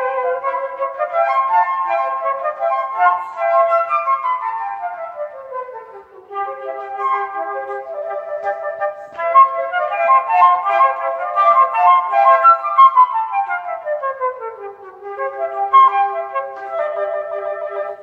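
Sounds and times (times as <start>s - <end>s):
flute duet: 0.0s - 18.0s.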